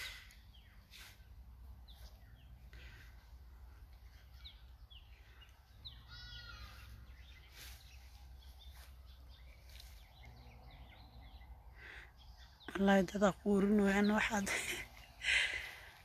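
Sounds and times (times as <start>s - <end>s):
faint bird chirps: 0.0s - 13.2s.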